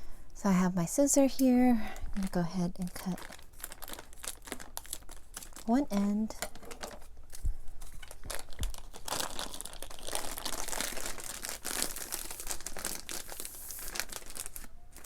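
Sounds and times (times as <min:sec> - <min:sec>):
plastic crinkling: 0:01.8 - 0:15.0.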